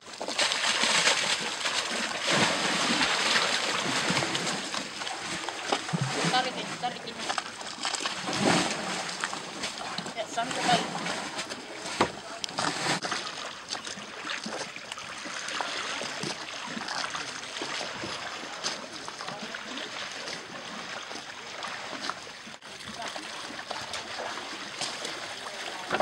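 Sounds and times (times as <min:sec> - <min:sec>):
water splashing and sloshing: 0:00.0 - 0:26.0.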